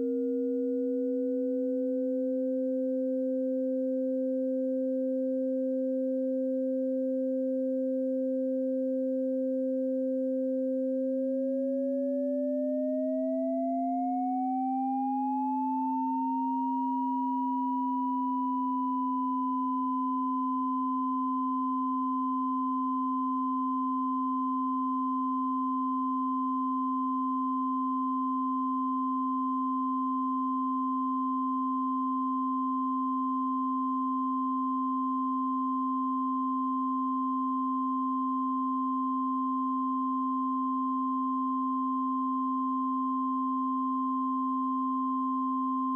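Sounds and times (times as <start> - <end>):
faint middle sine tone: 0.0 - 45.9
rising high sine tone: 0.0 - 45.9
steady low sine tone: 0.0 - 45.9.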